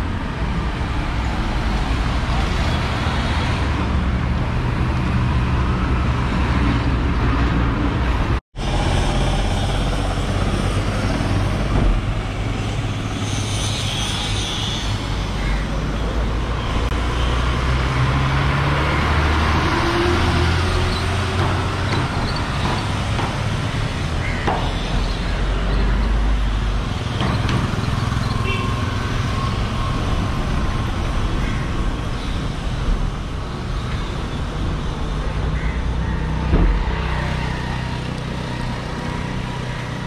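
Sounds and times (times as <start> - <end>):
vehicles passing: 0.0 - 40.0.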